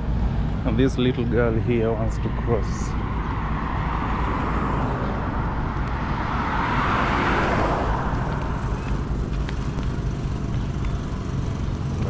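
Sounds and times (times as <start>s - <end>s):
steady low rumble: 0.0s - 12.0s
vehicle passing on road: 0.0s - 12.0s.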